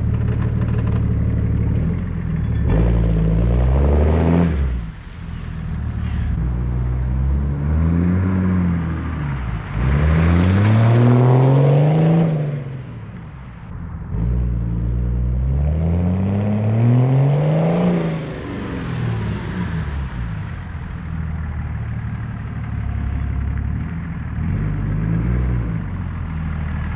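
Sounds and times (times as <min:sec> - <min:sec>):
diesel car engine revving: 0:00.0 - 0:26.9.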